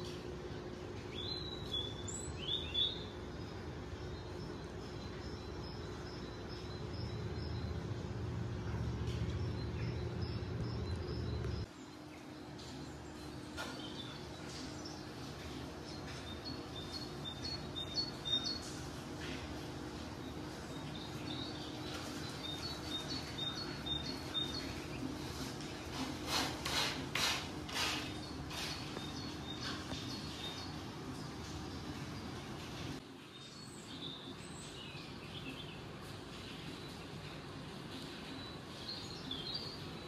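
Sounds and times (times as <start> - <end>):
steady low hum: 0.0 - 33.3
small birds chirping: 0.9 - 40.0.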